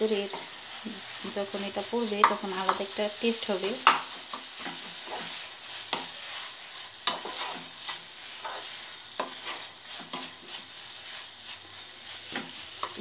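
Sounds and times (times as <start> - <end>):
food sizzling in a pan: 0.0 - 13.0
spatula scraping a pan: 0.0 - 13.0.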